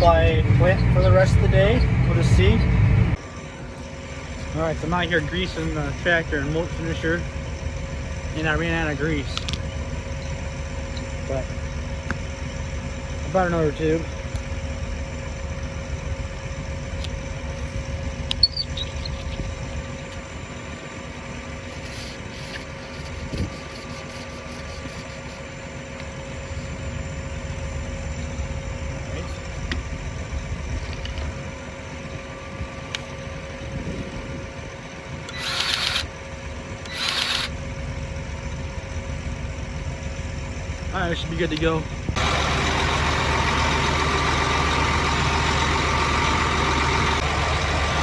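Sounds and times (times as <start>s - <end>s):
engine idling: 0.0s - 48.0s.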